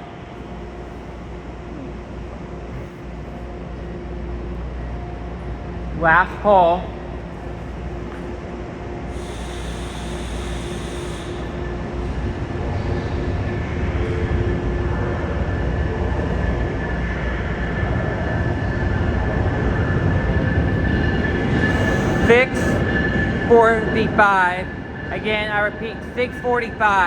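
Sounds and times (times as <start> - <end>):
train rumble and whine: 0.0 - 27.0.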